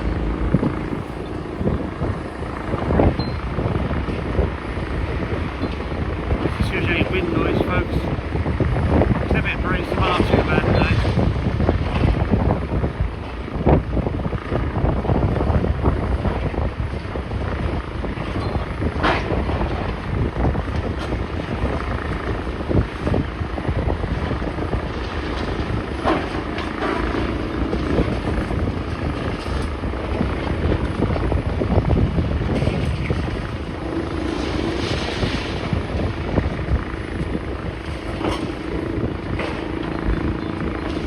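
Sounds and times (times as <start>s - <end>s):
engine hum: 0.0s - 41.0s
heavy demolition machinery running: 0.0s - 41.0s
wind buffeting microphone: 0.0s - 41.0s.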